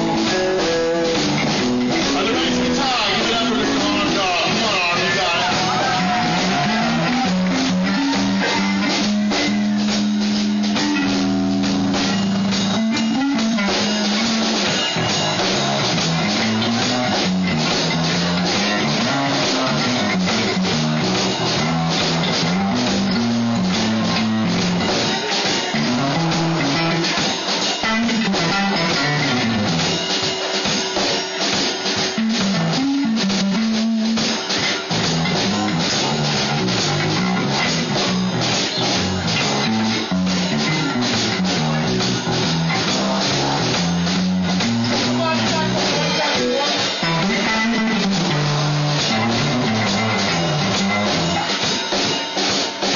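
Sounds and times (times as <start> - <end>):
bass: 0.0 - 52.9
drum kit: 0.0 - 52.9
electric guitar: 0.0 - 52.9.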